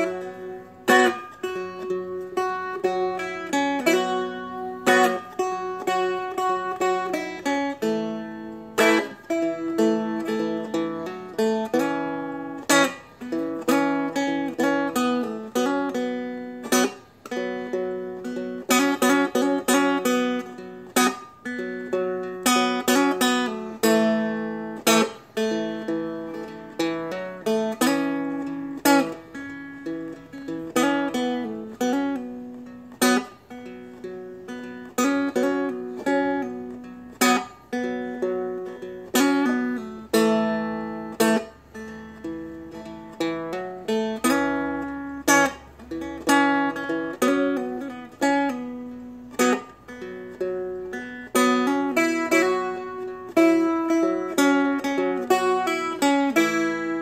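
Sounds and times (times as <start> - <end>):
dulcimer picked and strummed: 0.0 - 57.0.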